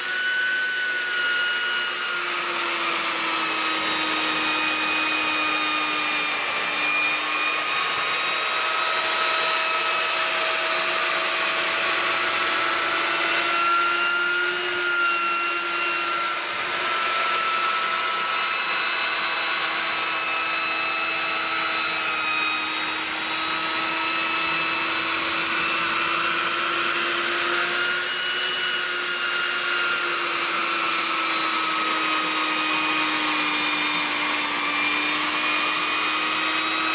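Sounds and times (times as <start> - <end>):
power tool whine: 0.0 - 36.9.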